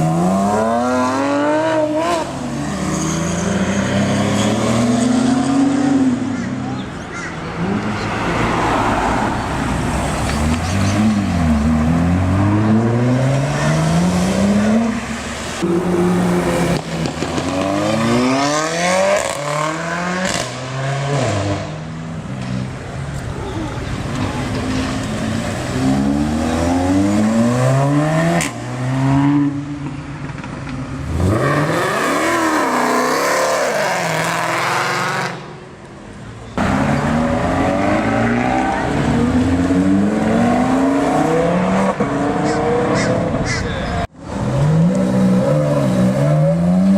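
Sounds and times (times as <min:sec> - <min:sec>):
sports car engines accelerating: 0:00.0 - 0:35.6, 0:36.4 - 0:46.9.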